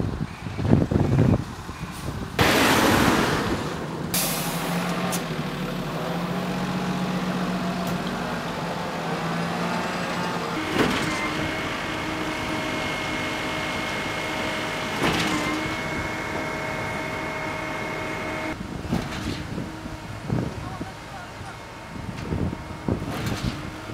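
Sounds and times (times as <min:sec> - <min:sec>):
heavy diesel truck engines running: 0:00.0 - 0:23.9.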